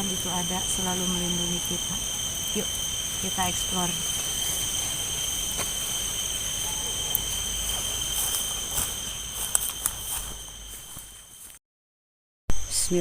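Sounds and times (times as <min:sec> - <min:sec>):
crickets trilling: 0:00.0 - 0:11.6, 0:12.5 - 0:13.0.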